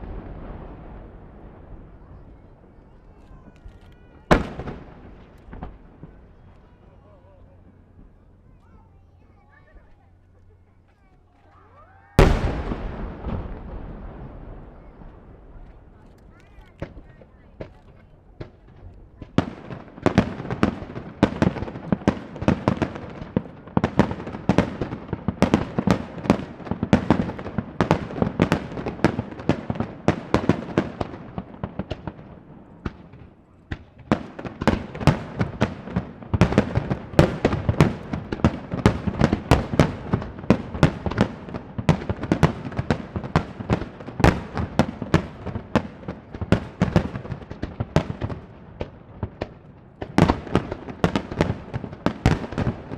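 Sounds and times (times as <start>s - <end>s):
fireworks booms and crackles: 0.0s - 10.2s, 12.2s - 52.9s.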